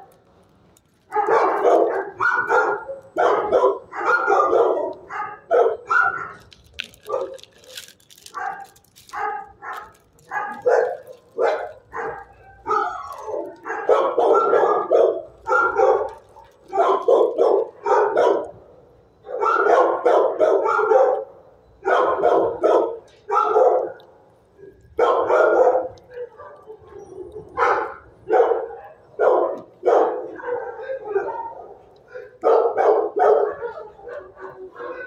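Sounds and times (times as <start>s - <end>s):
dogs barking: 1.1s - 18.6s, 19.2s - 35.0s.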